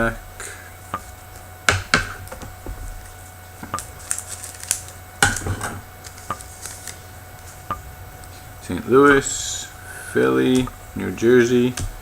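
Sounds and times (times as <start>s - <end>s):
trading cards clicking and tapping: 0.9s - 8.5s, 9.1s - 12.0s.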